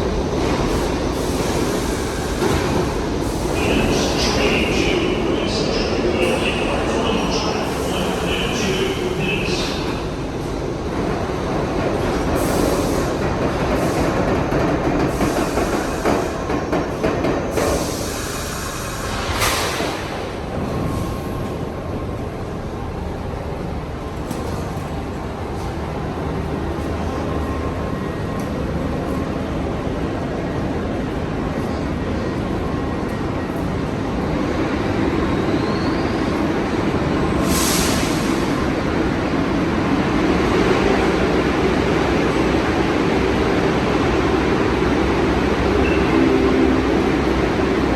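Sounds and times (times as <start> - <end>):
subway train rolling on rails: 0.0 - 47.9.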